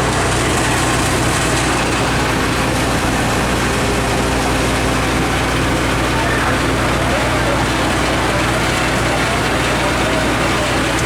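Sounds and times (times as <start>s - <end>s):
fire engine running: 0.0s - 11.0s.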